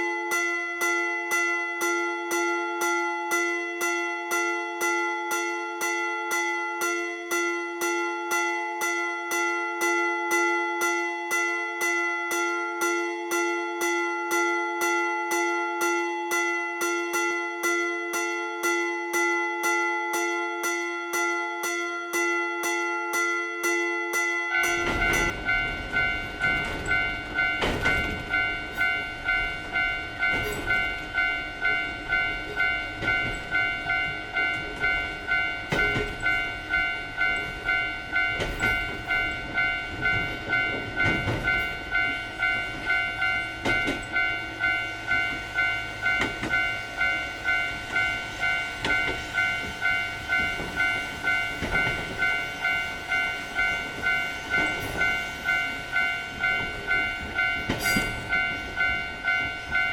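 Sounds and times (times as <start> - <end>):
level crossing warning bell: 0.0 - 59.9.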